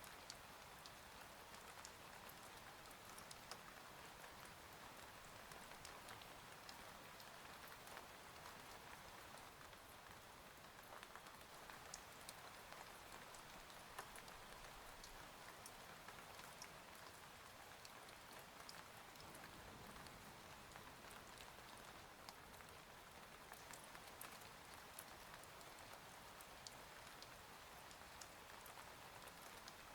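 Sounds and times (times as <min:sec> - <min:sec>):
faint steady rain: 0:00.0 - 0:29.9.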